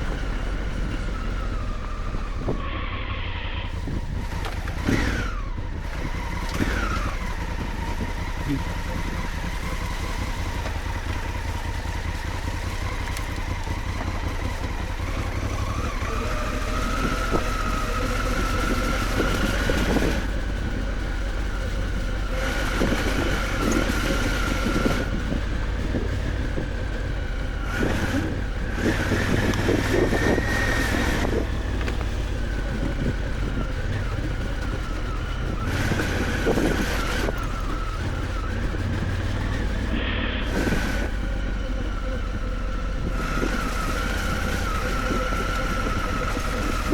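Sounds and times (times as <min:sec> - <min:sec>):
motorcycle engine rumbling: 0:00.0 - 0:46.9.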